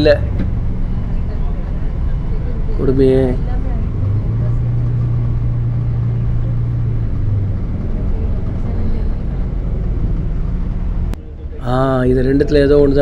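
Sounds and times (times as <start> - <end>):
bus engine hum: 0.0 - 13.0
road rumble: 0.0 - 13.0.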